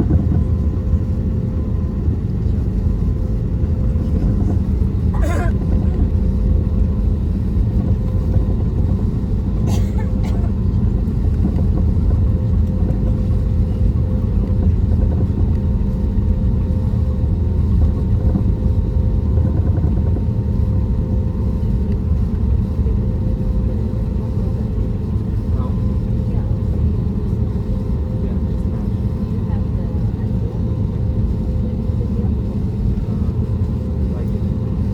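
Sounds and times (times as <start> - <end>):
aircraft cabin engine rumble: 0.0 - 34.9.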